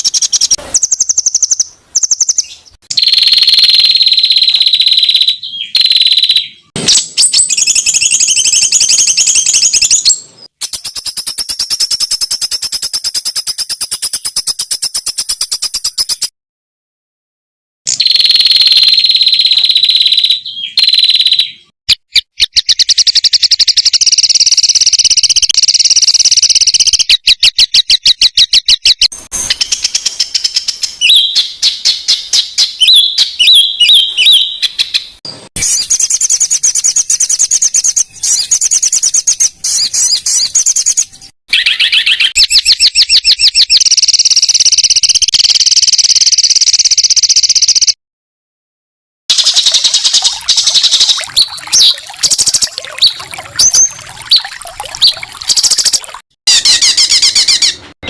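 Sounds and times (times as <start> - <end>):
songbird fast trills: 0.0 - 16.3, 17.9 - 47.9, 49.3 - 57.8.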